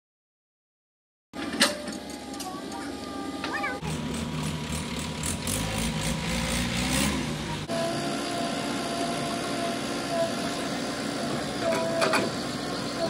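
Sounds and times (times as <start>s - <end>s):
heavy machinery diesel engine: 1.4s - 13.0s.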